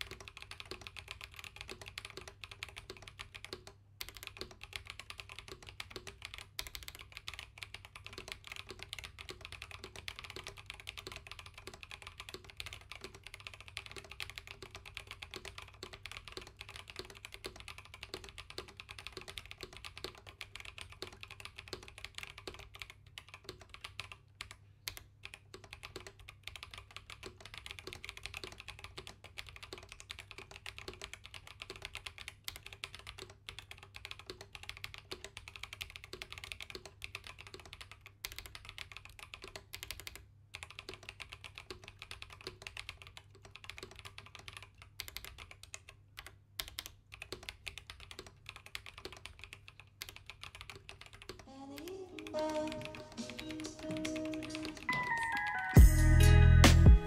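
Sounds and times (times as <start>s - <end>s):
fast mechanical keyboard typing: 0.0s - 55.7s.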